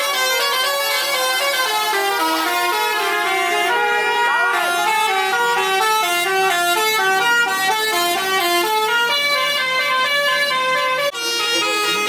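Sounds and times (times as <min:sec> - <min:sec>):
musical air horn tune: 0:00.0 - 0:09.9.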